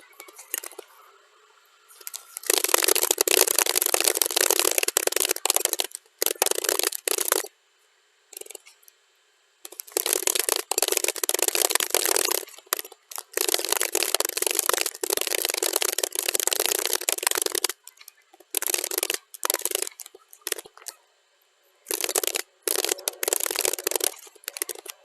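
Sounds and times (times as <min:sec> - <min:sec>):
rapid keyboard typing clicks: 0:00.0 - 0:01.0, 0:01.9 - 0:07.5, 0:08.4 - 0:08.8, 0:09.6 - 0:21.0, 0:21.9 - 0:25.0.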